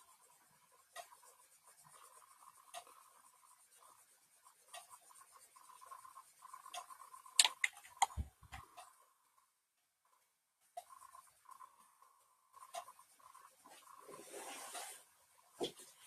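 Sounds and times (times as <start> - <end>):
stylus scratching on tablet: 0.0 - 9.1, 10.8 - 16.0.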